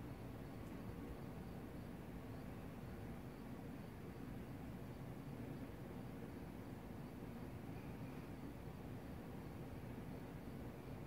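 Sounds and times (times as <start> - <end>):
light hiss: 0.0 - 11.0.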